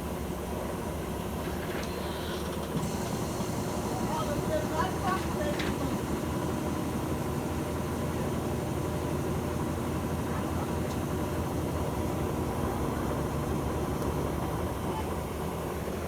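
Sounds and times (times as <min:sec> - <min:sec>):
washing machine spin hum: 0:00.2 - 0:16.0.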